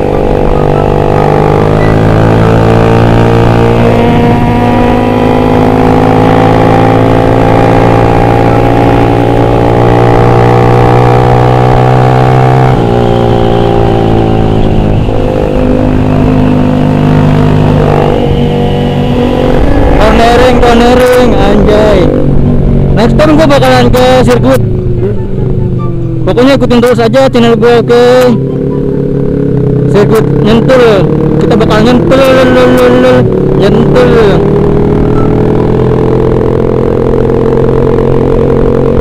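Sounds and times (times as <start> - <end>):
motorcycle engine cruising: 0.0 - 39.0.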